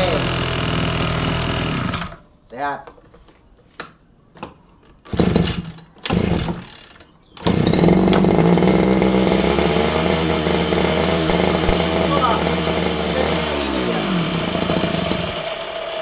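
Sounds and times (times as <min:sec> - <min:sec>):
brush cutter engine starting: 0:00.0 - 0:02.2, 0:05.1 - 0:16.0.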